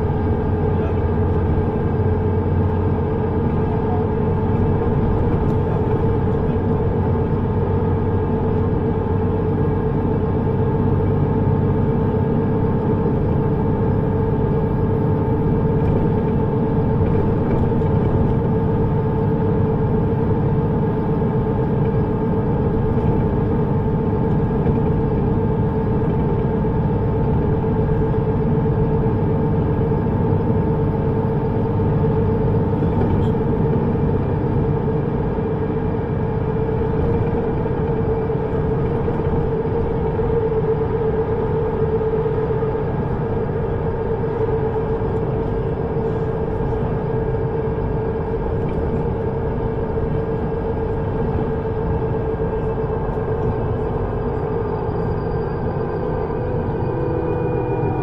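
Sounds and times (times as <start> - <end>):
vehicle running rumble: 0.0 - 58.0.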